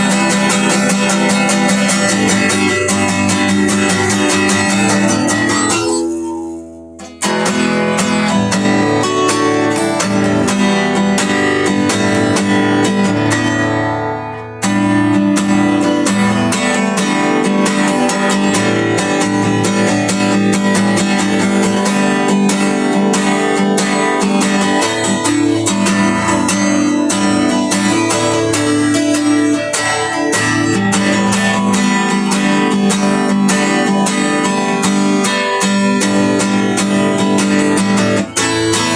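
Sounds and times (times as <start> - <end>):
strummed guitar music: 0.0 - 38.9.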